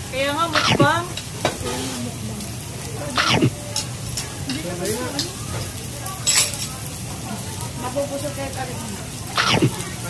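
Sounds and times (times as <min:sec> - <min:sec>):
restaurant background hiss: 0:00.0 - 0:10.0.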